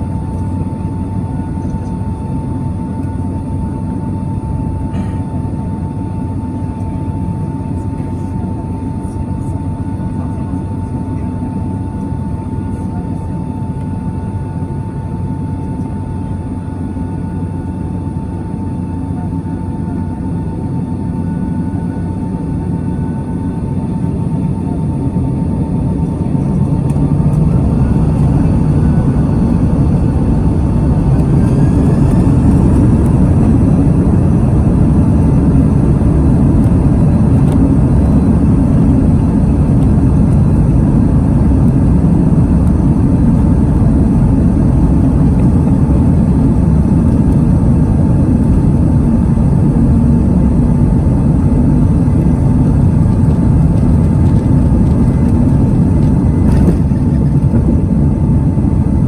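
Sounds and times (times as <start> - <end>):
jet engine roar in cabin: 0.0 - 59.0.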